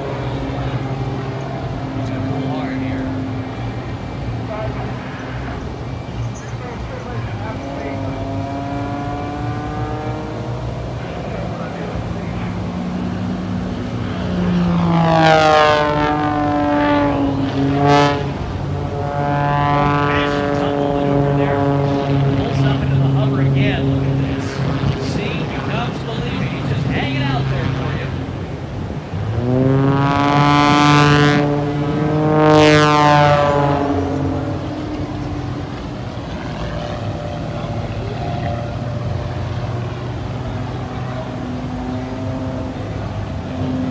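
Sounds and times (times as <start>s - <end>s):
propeller airplane engine flying past: 0.0s - 43.9s.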